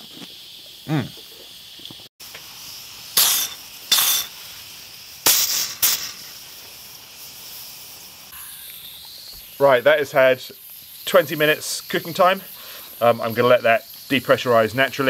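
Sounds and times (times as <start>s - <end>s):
pressure cooker valves hissing: 2.2s - 15.0s
sharp spurts of steam: 2.2s - 15.0s.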